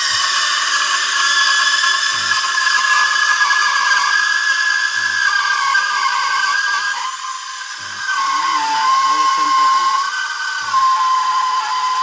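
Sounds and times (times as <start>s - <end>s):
steam wand hissing: 0.0s - 12.0s.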